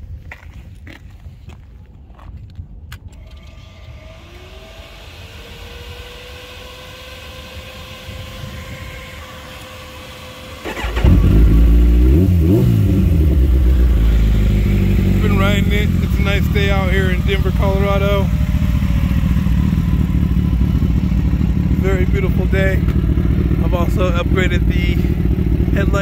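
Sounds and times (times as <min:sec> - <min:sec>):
motorcycle engine starting and revving: 0:03.1 - 0:26.0.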